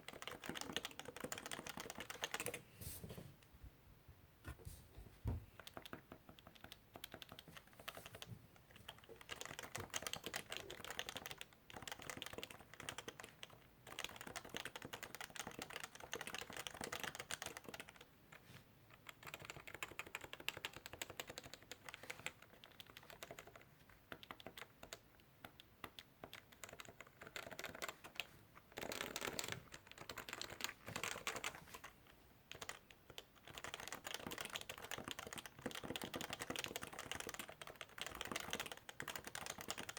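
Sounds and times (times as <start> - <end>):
typing on keyboard: 0.0 - 2.6, 5.5 - 18.1, 18.9 - 31.9, 32.5 - 39.9.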